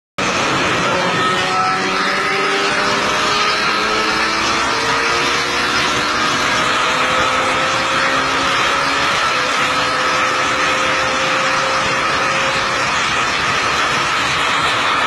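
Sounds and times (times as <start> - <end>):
motorcycle engine running: 0.2 - 15.0
wind rushing on microphone: 2.6 - 15.0.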